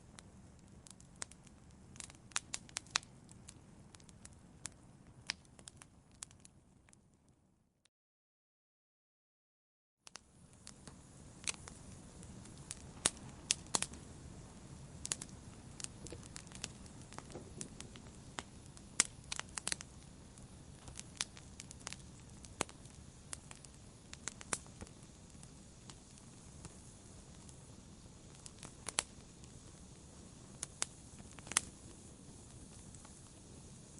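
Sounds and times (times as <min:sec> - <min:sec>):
soft rush of flames: 0:00.0 - 0:06.7, 0:10.1 - 0:33.9
fire crackling and popping: 0:00.0 - 0:07.4, 0:10.0 - 0:33.9.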